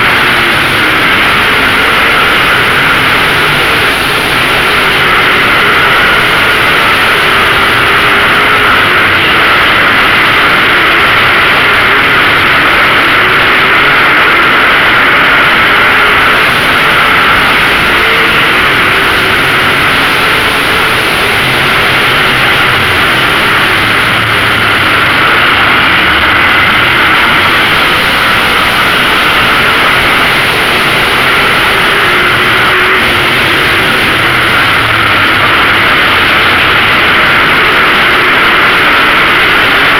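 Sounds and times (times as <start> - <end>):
race car engines roaring: 0.0 - 39.9.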